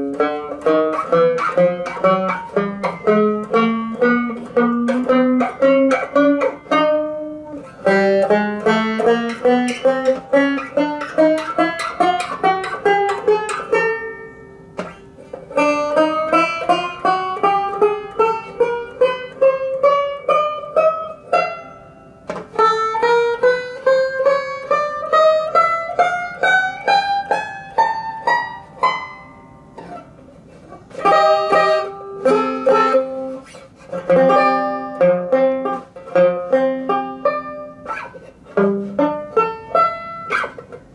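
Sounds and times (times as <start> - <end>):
banjo plucked notes and chords: 0.0 - 40.9.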